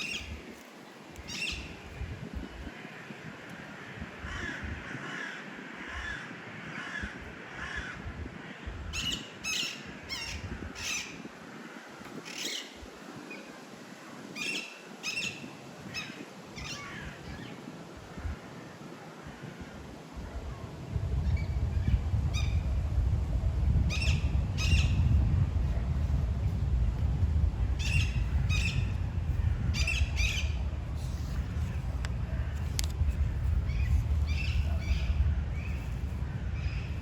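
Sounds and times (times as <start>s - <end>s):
wind buffeting microphone: 0.0s - 14.5s, 15.1s - 37.0s.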